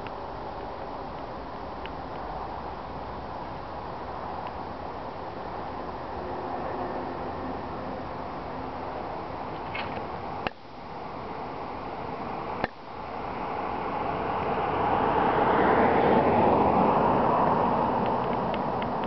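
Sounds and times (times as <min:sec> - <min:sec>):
car tyre and road noise: 0:00.0 - 0:19.0.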